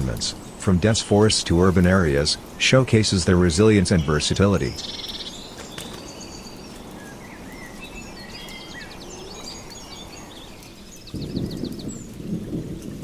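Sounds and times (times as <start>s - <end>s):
small birds chirping: 0.0s - 12.9s
outdoor ambience hiss: 0.0s - 13.0s
rain: 0.0s - 13.0s
thunder rumble: 0.0s - 13.0s.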